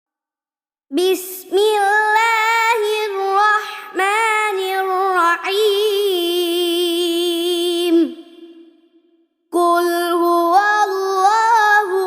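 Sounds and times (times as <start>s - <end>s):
child chanting: 0.9s - 8.7s, 9.5s - 12.0s.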